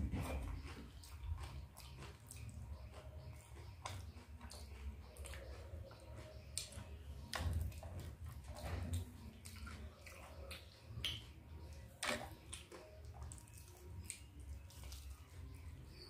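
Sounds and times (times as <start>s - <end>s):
fingers squishing food: 0.0s - 16.0s
wet chewing: 0.0s - 16.0s.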